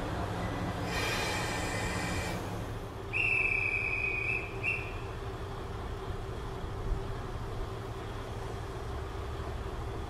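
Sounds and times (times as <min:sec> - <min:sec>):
diesel engines idling: 0:00.0 - 0:10.0.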